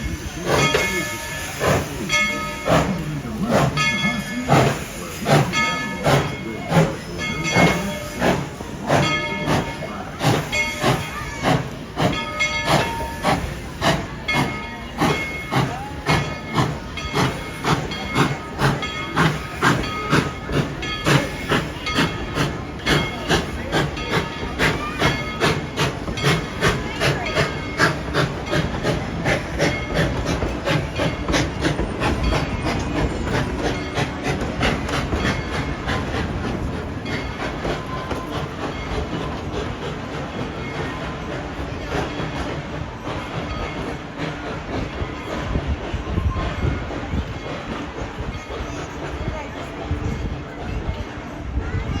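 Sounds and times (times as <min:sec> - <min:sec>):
steam hiss: 0:00.0 - 0:50.5
steam locomotive chuffing: 0:00.0 - 0:52.0.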